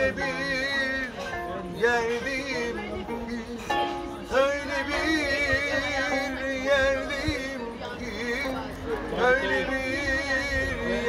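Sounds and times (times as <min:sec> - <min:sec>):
music with singing voice: 0:00.0 - 0:11.0.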